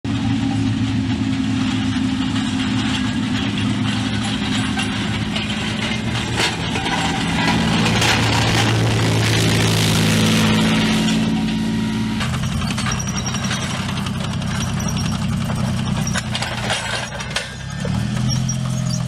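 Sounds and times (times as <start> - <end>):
tank engine drone: 0.0 - 19.0
tracks and rollers clattering: 0.1 - 19.0.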